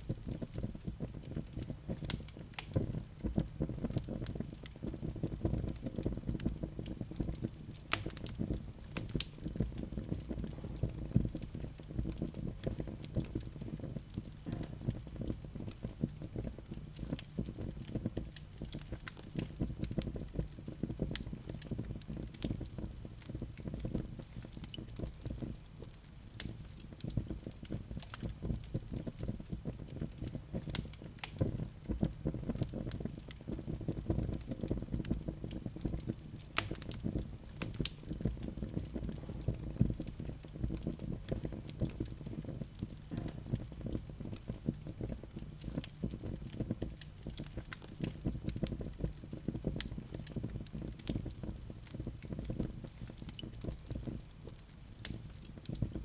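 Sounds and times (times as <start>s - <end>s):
low rush of flames: 0.0s - 25.6s, 26.2s - 56.0s
burning logs crackling and popping: 0.0s - 56.0s.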